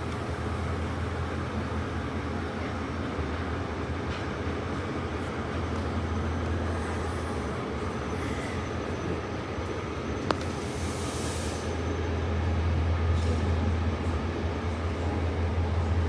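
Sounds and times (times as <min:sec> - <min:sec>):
train carriage drone: 0:00.0 - 0:16.0.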